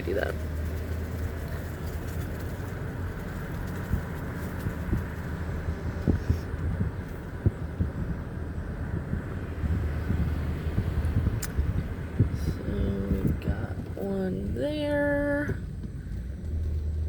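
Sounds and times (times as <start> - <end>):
vehicle cabin hum: 0.0 - 17.0.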